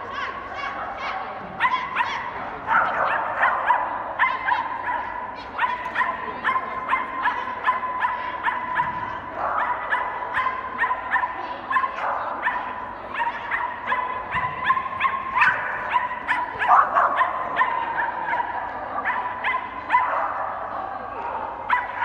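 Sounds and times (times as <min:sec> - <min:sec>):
dog barking: 0:01.6 - 0:22.0.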